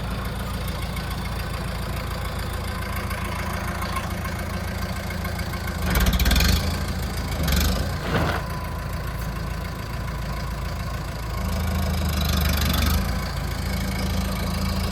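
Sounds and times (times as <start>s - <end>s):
tractor diesel engine idling: 0.0s - 14.9s.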